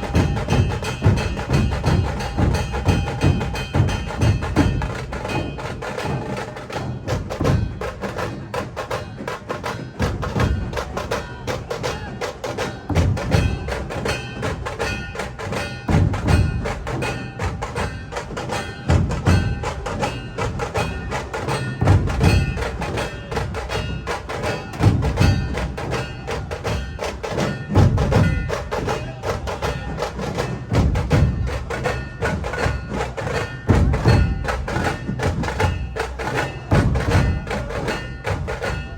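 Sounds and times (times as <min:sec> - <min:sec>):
fast clicking percussion: 0:00.0 - 0:38.9.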